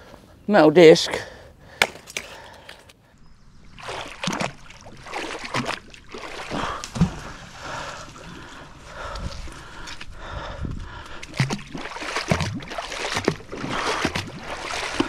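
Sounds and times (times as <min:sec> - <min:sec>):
water sloshing and splashing: 0:02.0 - 0:15.0.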